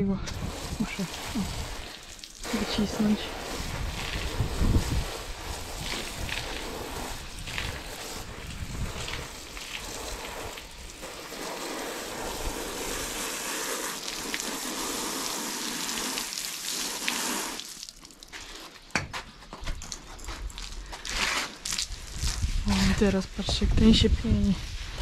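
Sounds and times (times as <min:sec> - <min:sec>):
hose spraying water: 0:00.2 - 0:18.9, 0:20.2 - 0:25.0
water splashing on paving: 0:00.3 - 0:18.9, 0:19.6 - 0:23.1.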